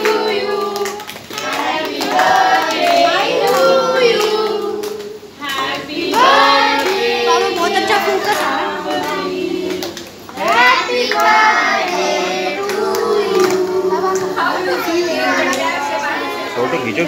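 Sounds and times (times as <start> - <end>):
hand clapping: 0.0 - 14.3
group singing birthday song: 0.0 - 17.0.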